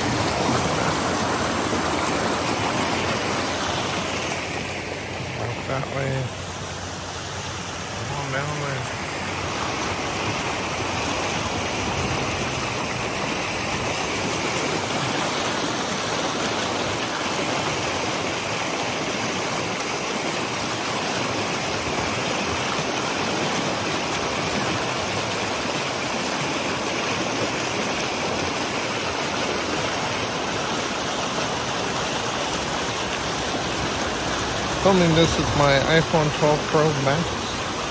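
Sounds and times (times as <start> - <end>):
creek rushing over rocks: 0.0 - 37.9.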